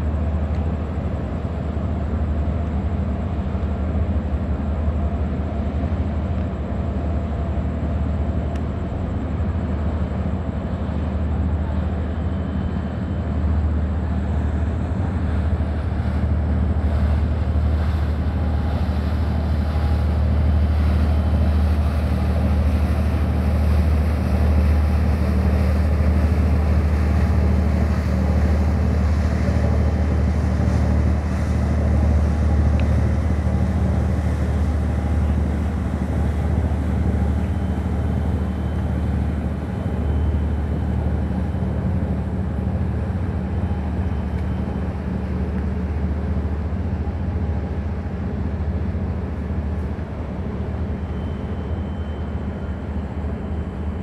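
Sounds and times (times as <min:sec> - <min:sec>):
ship engines rumbling: 0:00.0 - 0:54.0.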